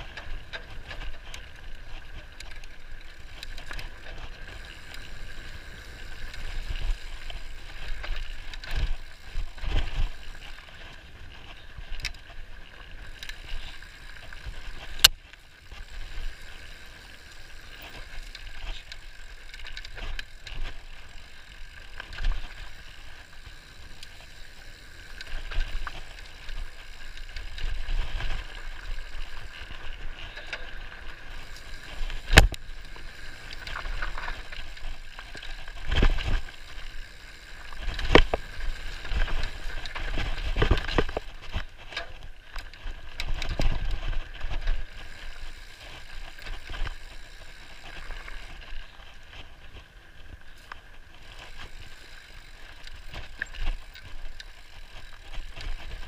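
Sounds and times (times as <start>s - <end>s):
bike rattles and knocks: 0.0s - 56.0s
tyre and trail rumble: 0.0s - 56.0s.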